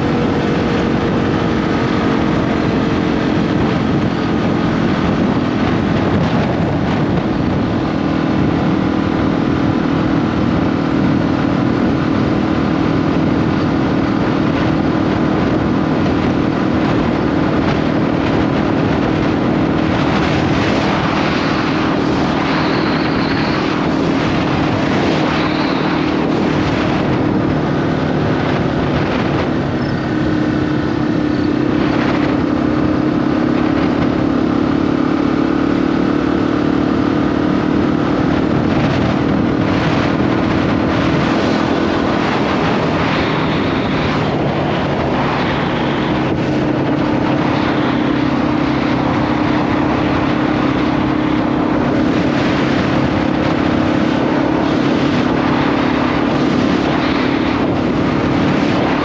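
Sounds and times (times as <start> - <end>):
motorcycle engine cruising: 0.0 - 59.0
wind rushing over microphone: 0.0 - 59.0.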